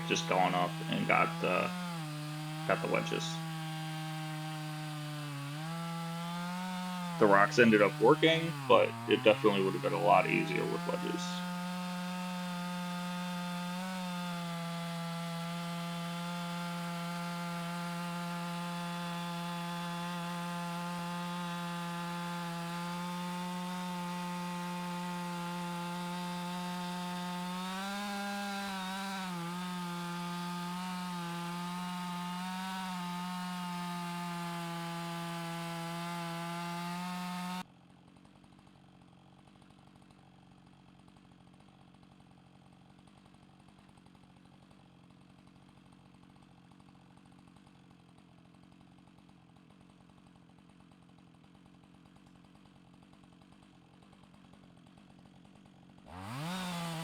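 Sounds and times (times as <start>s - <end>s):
chainsaw ripping a log: 0.0s - 57.0s.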